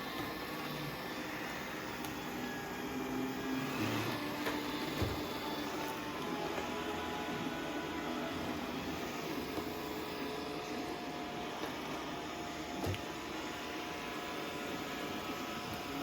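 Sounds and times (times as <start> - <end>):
robot vacuum whirring: 0.0 - 16.0.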